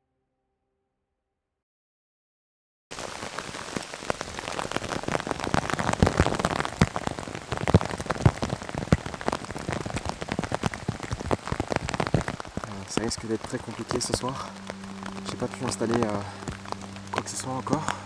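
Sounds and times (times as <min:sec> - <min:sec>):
heavy rain on trees: 0:02.9 - 0:18.0.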